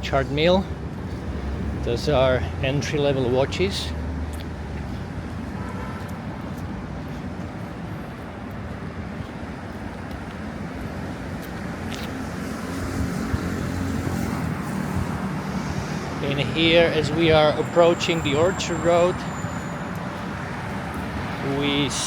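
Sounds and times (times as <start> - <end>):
hum of passing cars: 0.0 - 22.0.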